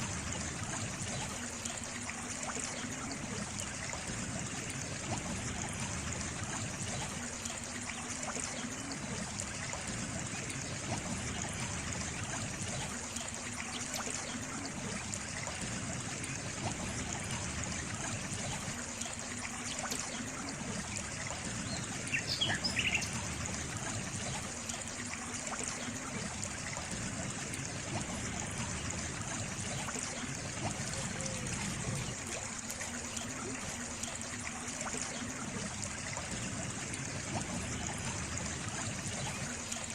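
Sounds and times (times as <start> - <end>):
trickling stream water: 0.0 - 39.9.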